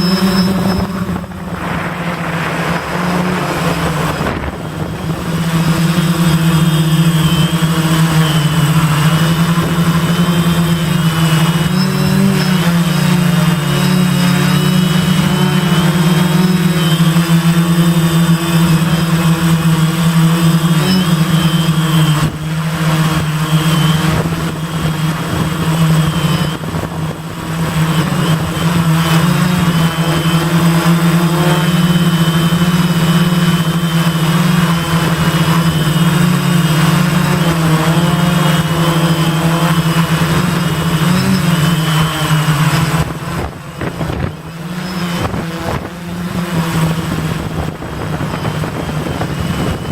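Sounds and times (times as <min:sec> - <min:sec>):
quadcopter propellers buzzing: 0:00.0 - 0:49.9.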